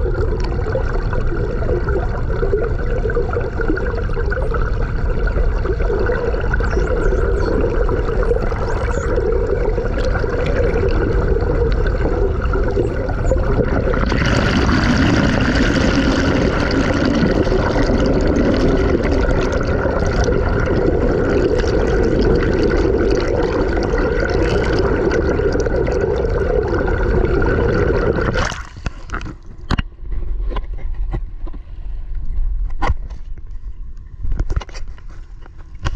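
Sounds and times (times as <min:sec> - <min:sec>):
low hum: 0:00.0 - 0:35.9
water noise: 0:00.0 - 0:35.9.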